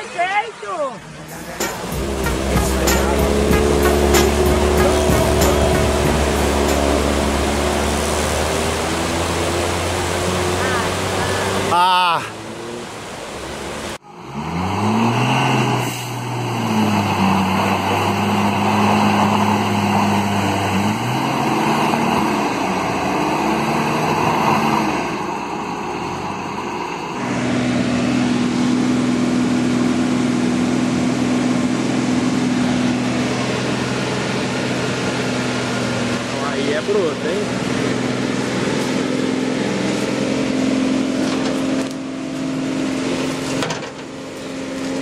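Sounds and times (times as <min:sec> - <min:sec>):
truck engine droning under load: 0:00.0 - 0:45.0
vehicle engine revving: 0:00.0 - 0:45.0.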